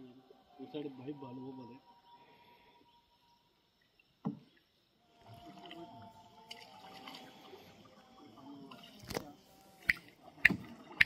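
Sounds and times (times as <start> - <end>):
faint drawn-out steady tones: 0.0 - 11.0.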